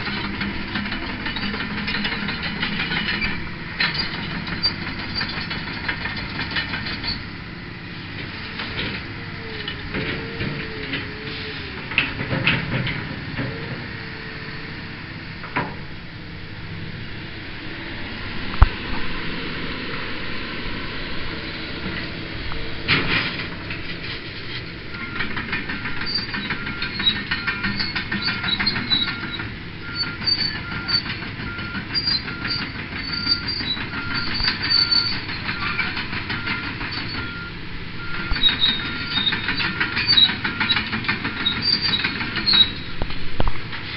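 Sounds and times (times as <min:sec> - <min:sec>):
metal tracks clattering and squealing: 0:00.0 - 0:07.4, 0:08.0 - 0:16.0, 0:20.7 - 0:43.9
excavator running: 0:00.0 - 0:43.9.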